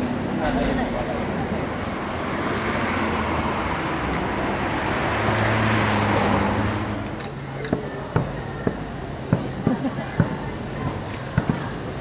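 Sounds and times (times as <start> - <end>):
electric train running past: 0.0 - 12.0.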